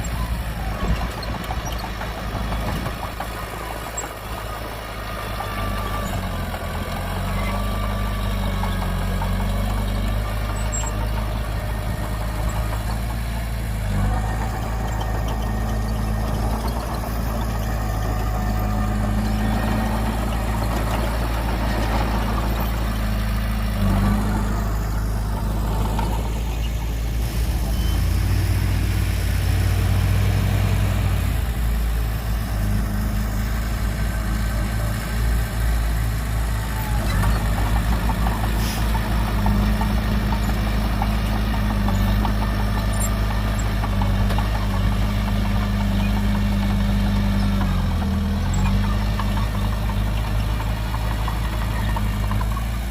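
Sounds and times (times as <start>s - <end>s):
diesel machinery engine drone: 0.0s - 52.9s.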